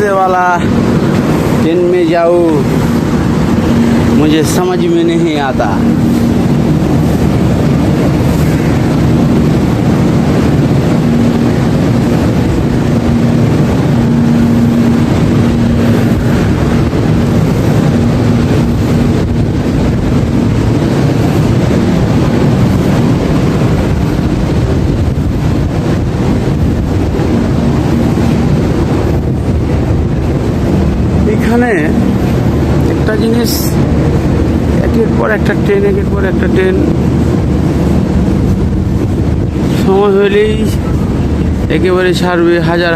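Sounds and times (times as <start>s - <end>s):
locomotive engine droning: 0.0s - 42.9s.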